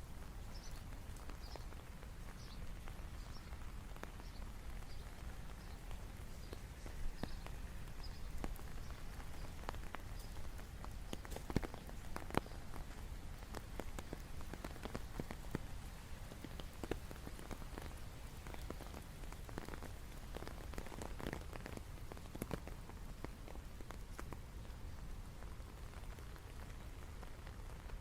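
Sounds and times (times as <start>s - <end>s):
raindrops striking close by: 0.0s - 28.0s
steady rainfall: 0.0s - 28.0s.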